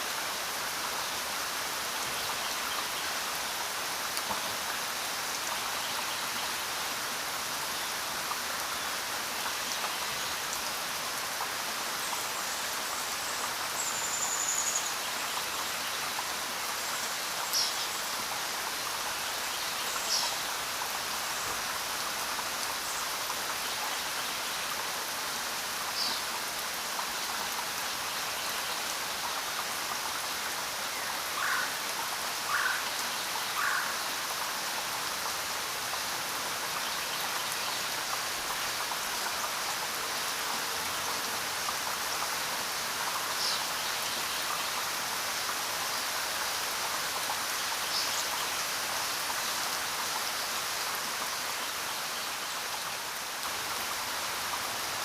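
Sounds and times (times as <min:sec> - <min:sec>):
steady rainfall hissing: 0:00.0 - 0:55.0.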